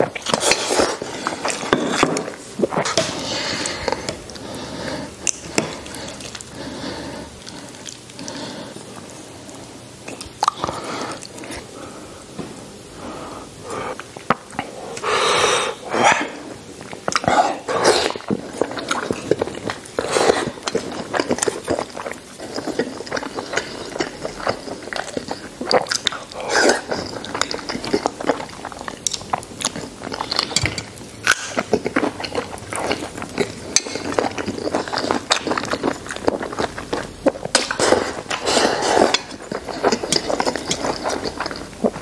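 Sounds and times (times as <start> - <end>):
man chewing and slurping: 0.0 - 11.8, 13.0 - 42.0.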